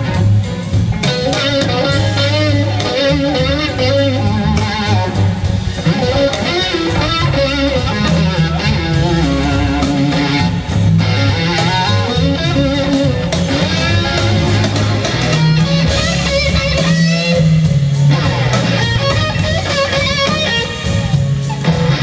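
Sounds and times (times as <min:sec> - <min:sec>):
bass guitar: 0:00.0 - 0:22.0
drums: 0:00.0 - 0:22.0
electric guitar: 0:00.0 - 0:22.0.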